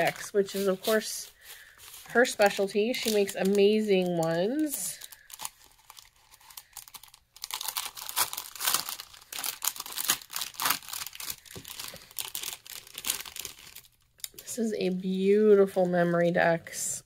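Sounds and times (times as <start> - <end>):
packaging crinkling and rustling: 0.0 - 14.5.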